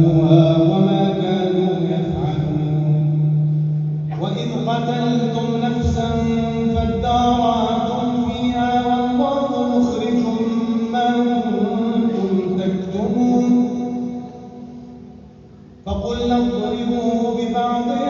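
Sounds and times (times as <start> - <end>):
man chanting melodic recitation: 0.0 - 15.2, 15.8 - 18.0.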